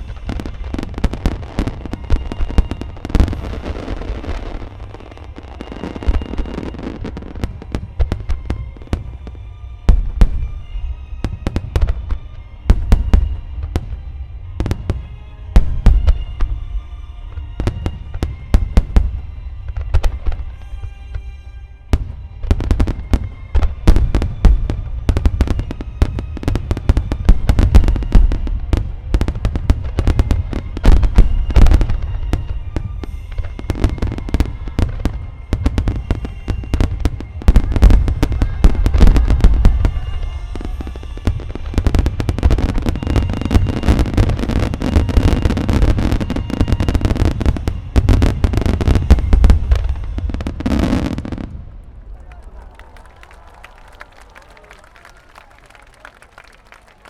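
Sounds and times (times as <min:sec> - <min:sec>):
music: 0:00.0 - 0:57.0.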